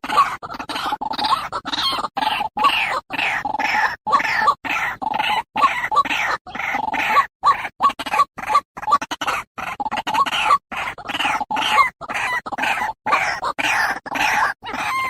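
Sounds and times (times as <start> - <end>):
waterhen calling repeated notes: 0.0 - 15.0.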